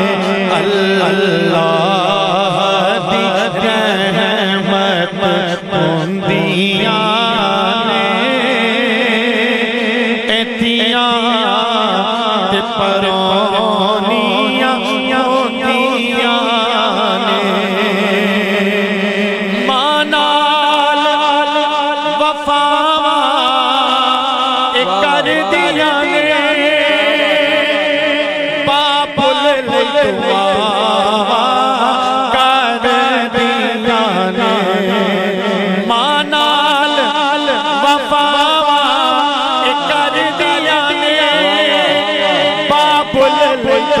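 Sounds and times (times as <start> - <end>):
man singing into microphone: 0.0 - 44.0.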